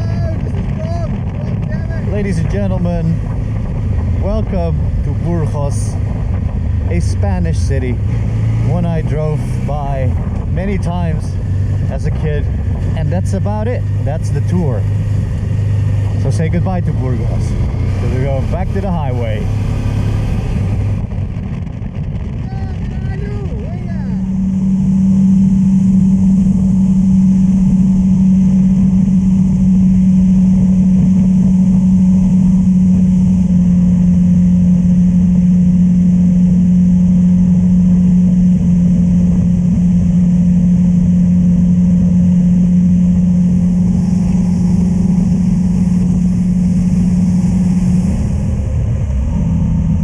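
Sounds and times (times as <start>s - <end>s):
motorcycle engine cruising: 0.0s - 50.0s
road and wind rush: 0.0s - 50.0s.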